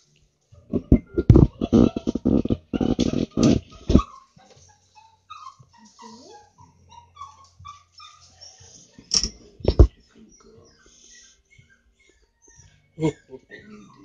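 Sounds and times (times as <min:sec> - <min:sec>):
animal whimpering: 0:00.7 - 0:04.4, 0:05.0 - 0:14.0.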